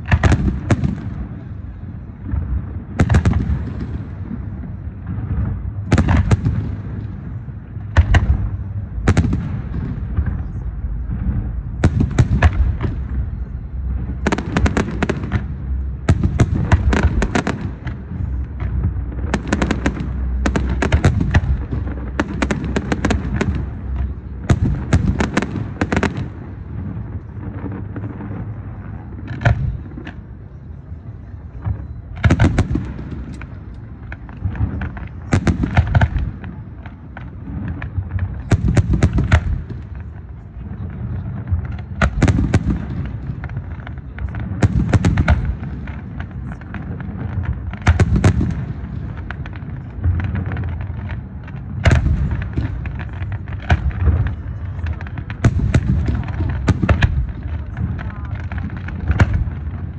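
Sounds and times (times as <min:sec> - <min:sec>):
continuous low rumble: 0:00.0 - 0:59.9
fireworks crackling bangs: 0:00.0 - 0:59.9.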